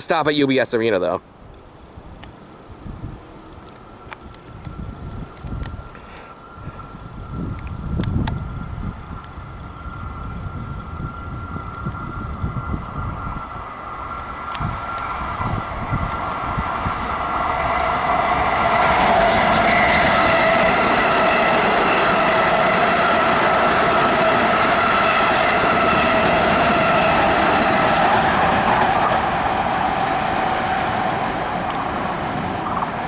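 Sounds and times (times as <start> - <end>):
electric train passing: 2.4 - 33.0
high whine of steady tones: 2.8 - 33.0.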